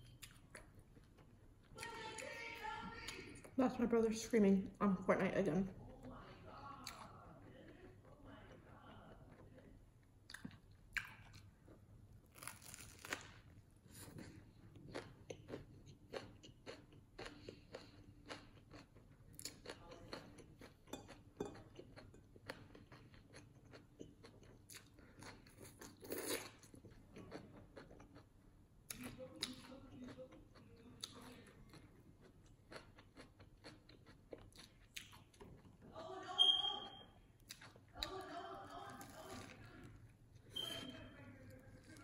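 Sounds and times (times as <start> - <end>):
person chewing crusty sandwich: 0.0 - 2.0, 5.8 - 35.8, 37.4 - 40.7, 41.4 - 42.0.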